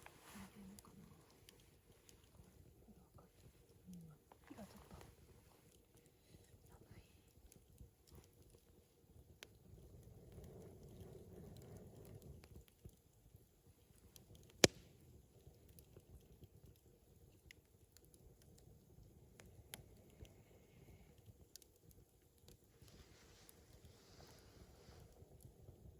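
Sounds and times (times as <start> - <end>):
fire popping: 0.0 - 25.9
wood fire crackling: 0.0 - 25.9.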